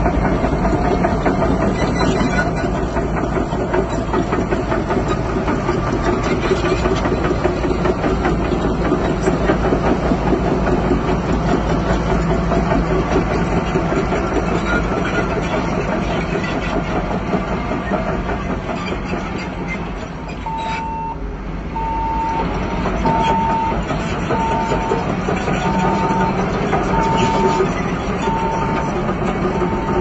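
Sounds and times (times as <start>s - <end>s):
fast mechanical clatter: 0.0s - 20.6s, 22.4s - 30.0s
heavy diesel engine running: 0.0s - 30.0s.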